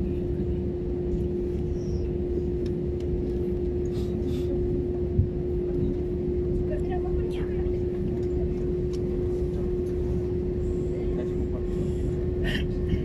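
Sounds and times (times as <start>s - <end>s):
jet engine cabin rumble: 0.0s - 13.0s
steady hum: 0.0s - 13.0s.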